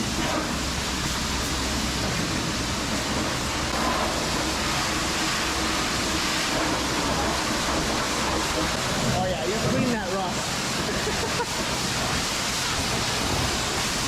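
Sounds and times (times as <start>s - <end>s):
pressure washer water jet spraying: 0.4s - 14.0s.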